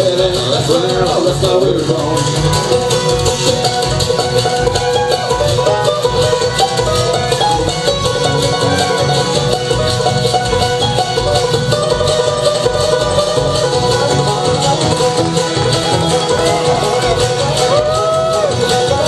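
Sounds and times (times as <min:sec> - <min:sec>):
banjo picking: 0:00.0 - 0:19.0
guitar: 0:00.0 - 0:19.0
washboard scraping a beat: 0:00.0 - 0:19.0.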